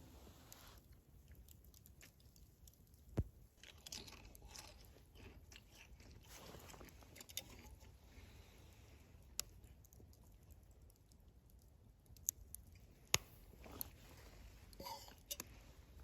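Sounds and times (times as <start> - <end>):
faint crunching and clicking: 0.0 - 16.0.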